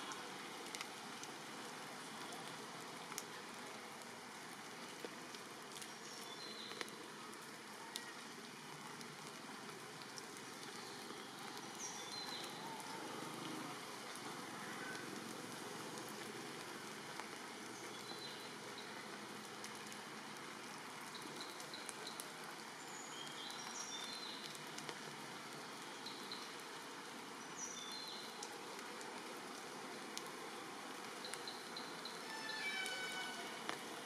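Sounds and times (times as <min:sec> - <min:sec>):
steady rain: 0:00.0 - 0:34.0
sharp drip ticks: 0:00.1 - 0:03.3, 0:04.0 - 0:32.2.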